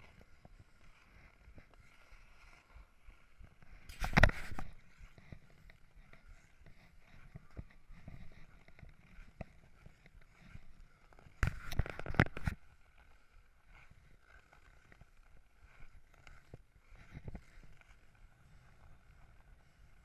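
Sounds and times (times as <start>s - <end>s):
ice skates gliding on ice: 0.0s - 20.0s.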